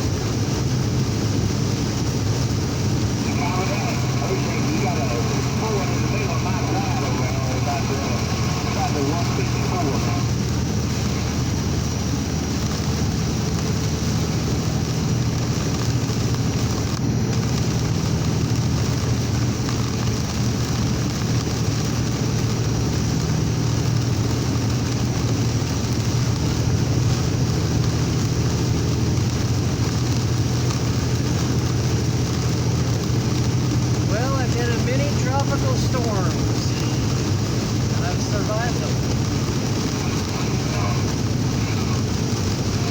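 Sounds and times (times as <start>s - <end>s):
heavy rain beating: 0.0s - 42.9s
strong wind: 0.0s - 42.9s
vehicle driving drone: 0.0s - 42.9s.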